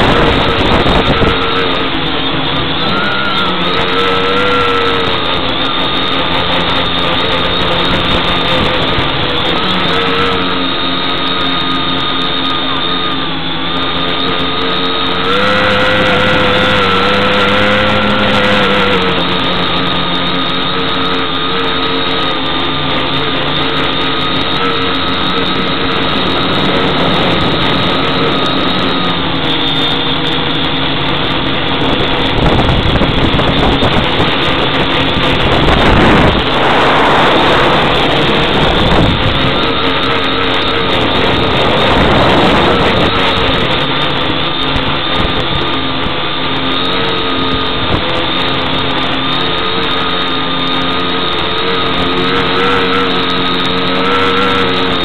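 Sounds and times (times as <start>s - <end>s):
quadcopter motors buzzing: 0.0s - 55.0s
rough rushing noise: 0.0s - 55.0s.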